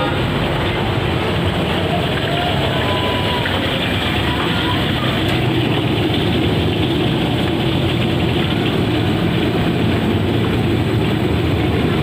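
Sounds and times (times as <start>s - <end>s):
gas burner roaring: 0.0s - 12.0s.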